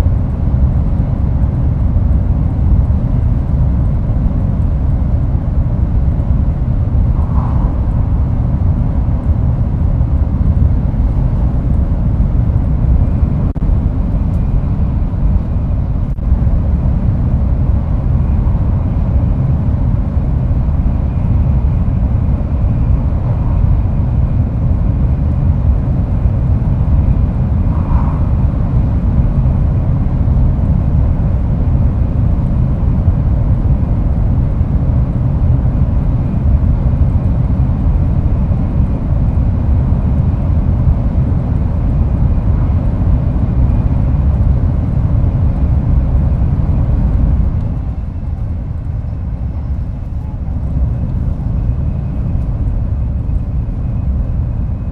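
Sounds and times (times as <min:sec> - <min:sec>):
train running rumble: 0:00.0 - 0:54.9.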